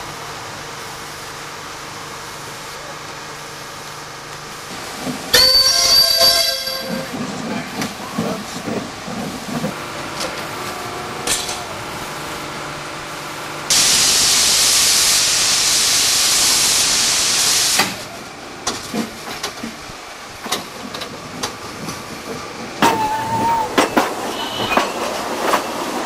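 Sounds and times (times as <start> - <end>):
idling train sounds: 0.0 - 26.0
steam locomotive hissing steam: 0.0 - 26.0.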